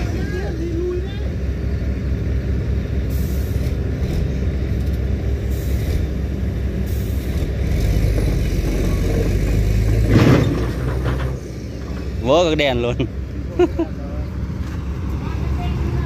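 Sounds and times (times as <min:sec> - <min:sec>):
heavy diesel engines under load: 0:00.0 - 0:16.0.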